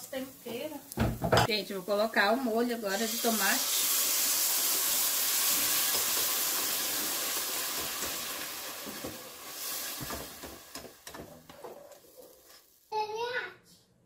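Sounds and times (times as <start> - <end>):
sauce sizzling in a pot: 0.0 - 13.0.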